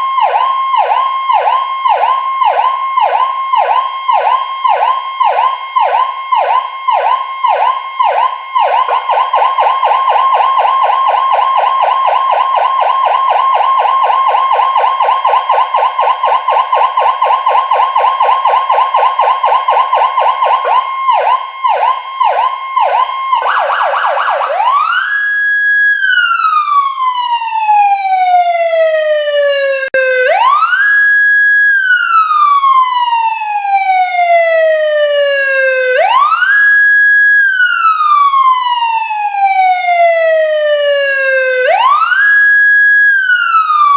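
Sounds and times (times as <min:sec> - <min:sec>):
electronic siren echoing: 0:00.0 - 0:43.9.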